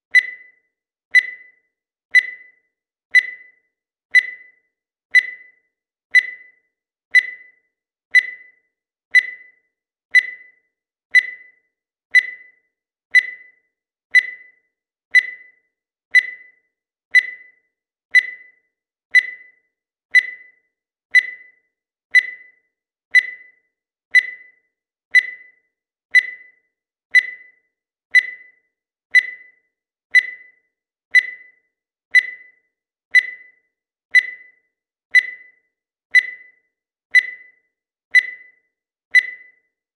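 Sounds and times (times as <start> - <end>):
countdown timer beeping: 0.1 - 39.8.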